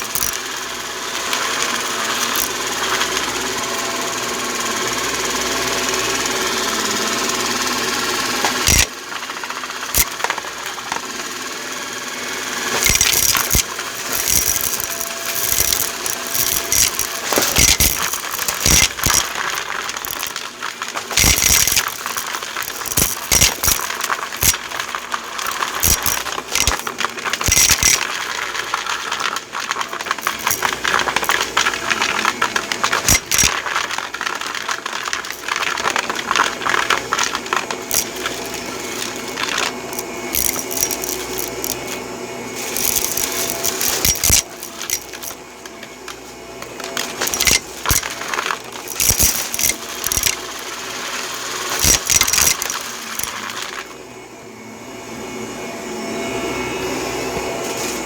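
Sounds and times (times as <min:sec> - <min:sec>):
small hard objects rattling: 0:00.0 - 0:04.4, 0:05.0 - 0:11.2, 0:12.4 - 0:42.0, 0:42.6 - 0:53.9
motor running with faint whine: 0:00.0 - 0:58.0.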